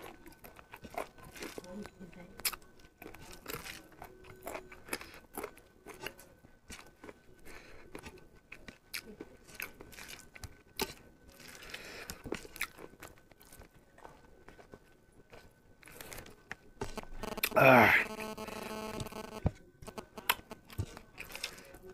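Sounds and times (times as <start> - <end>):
person chewing with wet smacks: 0.0 - 17.6, 18.5 - 21.9
crunching food: 0.0 - 21.9.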